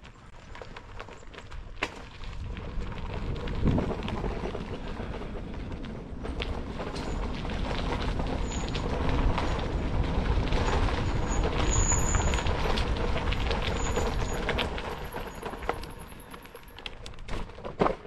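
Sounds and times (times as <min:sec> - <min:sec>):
bicycle tyres on gravel: 0:00.0 - 0:18.0
bike rattling and knocking: 0:00.0 - 0:18.0
wind rumble on microphone: 0:00.5 - 0:16.2.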